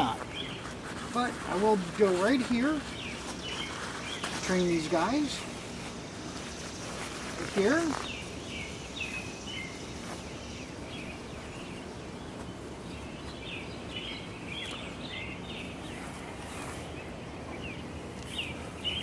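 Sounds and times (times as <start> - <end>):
background hiss: 0.0 - 19.0
small birds chirping: 0.0 - 19.0.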